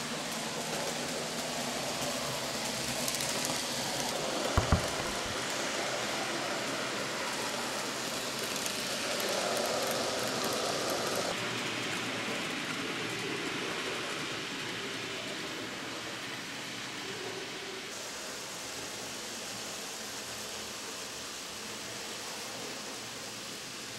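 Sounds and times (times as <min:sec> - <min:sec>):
model train wheels and motor: 0:00.0 - 0:23.9.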